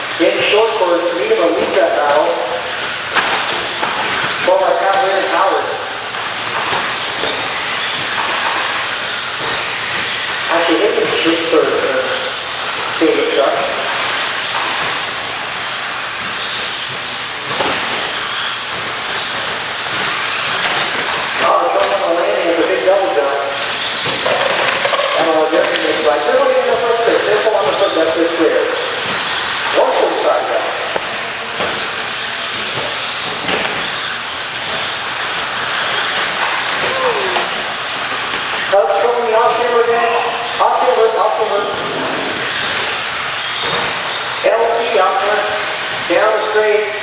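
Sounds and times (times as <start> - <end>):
rc truck motors whining: 1.5 - 4.4, 5.1 - 11.4, 12.4 - 22.7, 23.4 - 46.5.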